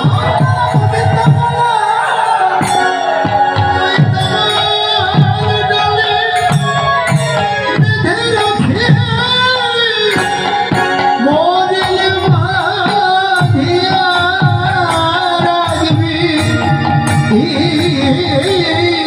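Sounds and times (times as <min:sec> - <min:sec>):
regular drum beat: 0:00.0 - 0:19.0.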